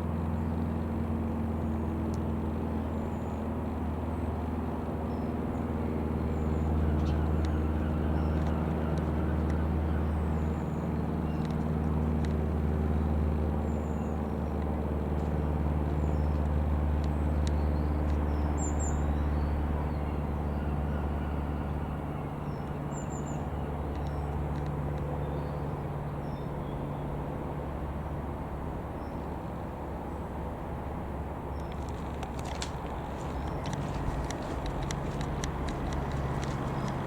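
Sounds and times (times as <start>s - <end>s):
light aircraft engine droning: 0.0s - 37.0s.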